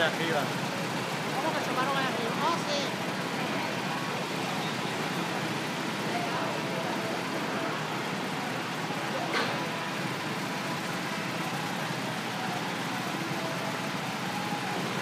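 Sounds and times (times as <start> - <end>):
faint distant voices: 0.0 - 15.0
outdoor background noise: 0.0 - 15.0.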